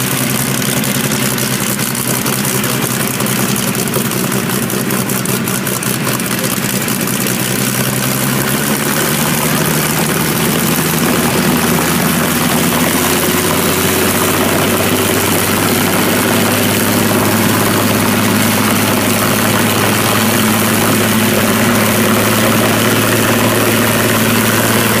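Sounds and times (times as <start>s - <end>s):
propeller aircraft engine running: 0.0s - 25.0s.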